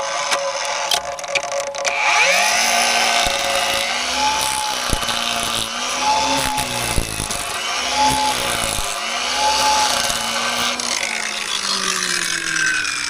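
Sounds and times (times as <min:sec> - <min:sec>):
cutter cutting wood: 0:00.0 - 0:13.0
small motor tool whining: 0:00.0 - 0:13.0.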